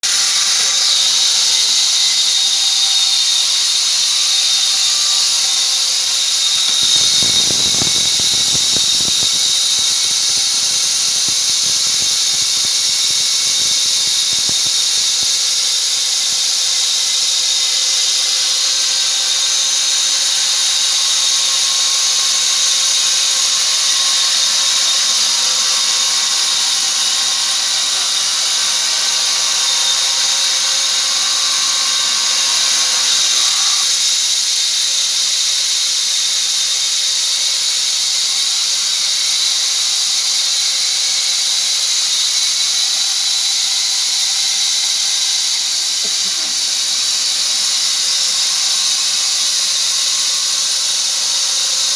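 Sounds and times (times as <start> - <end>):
bandsaw blade whining: 0.0 - 51.9.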